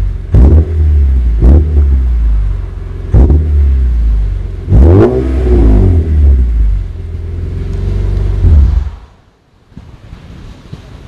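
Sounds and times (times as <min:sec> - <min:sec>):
car exhaust revving and burbling: 0:00.0 - 0:09.3.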